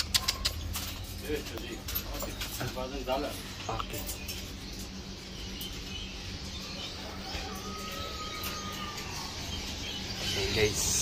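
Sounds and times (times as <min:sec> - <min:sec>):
caged birds chirping: 0:00.0 - 0:11.0.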